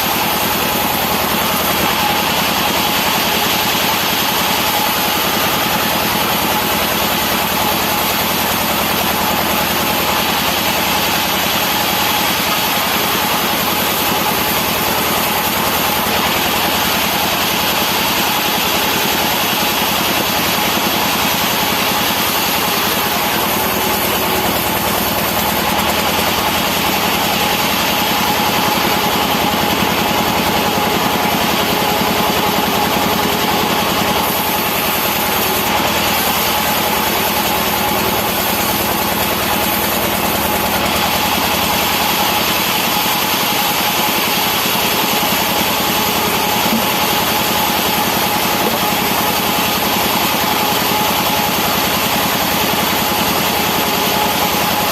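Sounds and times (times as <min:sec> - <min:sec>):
constant machine whine: 0:00.0 - 0:54.9
sawmill machinery cutting timber: 0:00.0 - 0:54.9.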